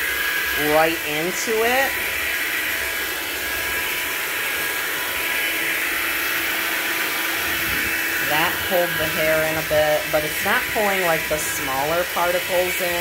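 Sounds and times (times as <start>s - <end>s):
stick vacuum running: 0.0s - 13.0s.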